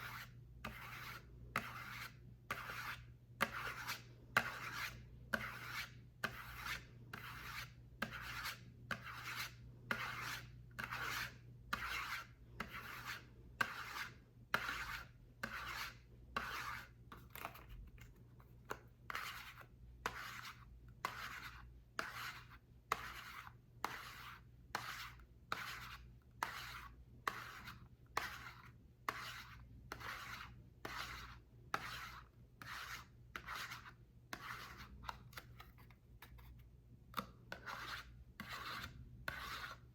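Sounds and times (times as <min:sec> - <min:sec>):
rasping strokes on soap: 0:00.0 - 0:17.0, 0:18.7 - 0:35.6, 0:37.2 - 0:39.9.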